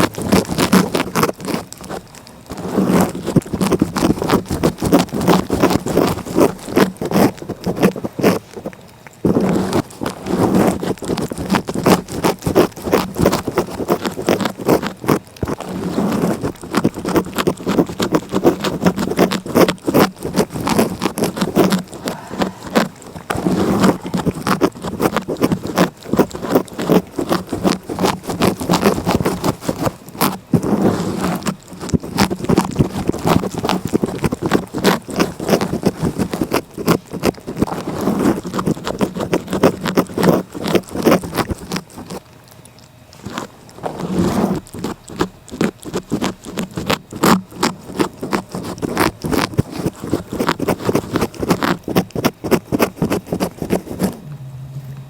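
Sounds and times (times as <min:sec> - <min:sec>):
cat licking: 0:00.0 - 0:54.3.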